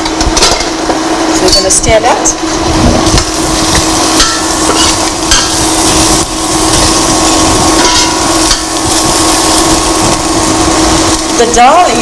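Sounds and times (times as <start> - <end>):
electrical hum and crackling: 0.0 - 12.0
onions frying in oil: 0.0 - 12.0.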